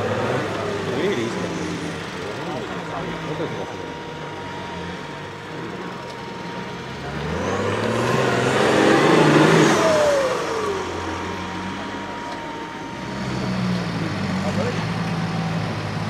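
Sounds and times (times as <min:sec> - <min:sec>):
truck engine revving under load: 0:00.0 - 0:16.0.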